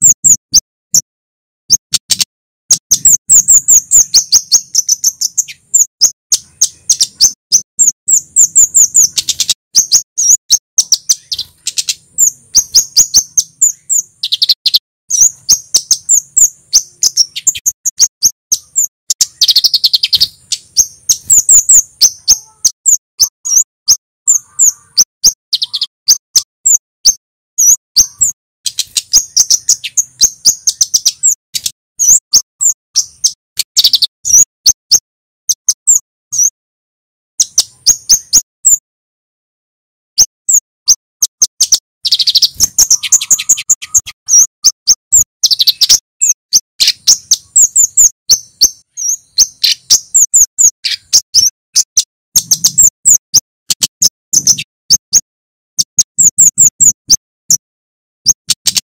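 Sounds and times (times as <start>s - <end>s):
bird sharp high chirps: 0.0s - 36.6s, 37.3s - 38.8s, 40.1s - 58.9s.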